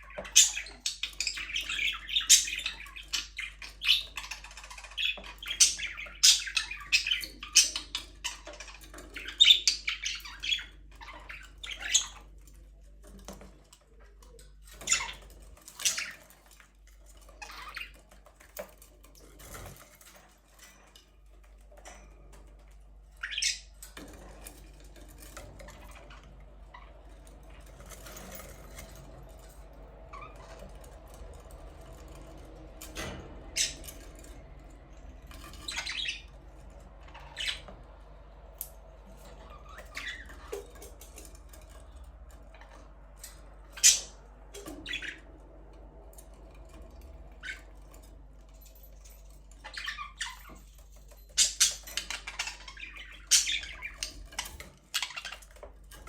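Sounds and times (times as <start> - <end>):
budgerigars chirping and squawking: 0.0 - 21.0, 21.8 - 45.4, 46.2 - 56.0.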